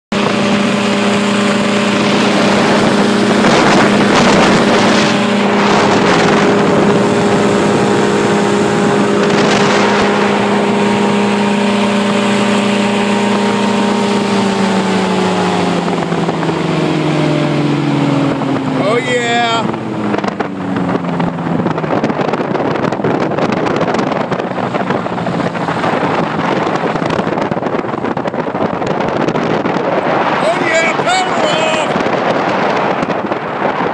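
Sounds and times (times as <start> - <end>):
propeller engine running: 0.1 - 33.9
wind buffeting microphone: 0.1 - 33.9.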